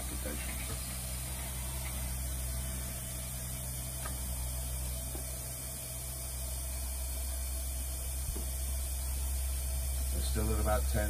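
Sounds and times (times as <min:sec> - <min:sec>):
machine hum with hiss: 0:00.0 - 0:11.0.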